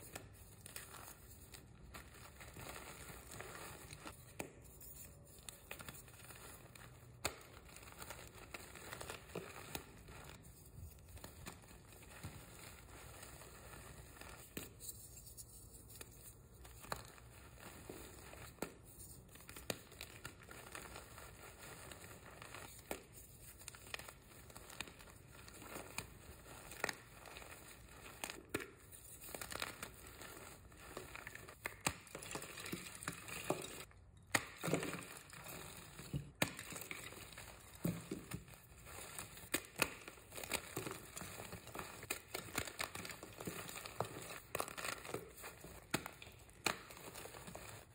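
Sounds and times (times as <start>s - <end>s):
chalk crunching and crumbling: 0.0s - 47.9s.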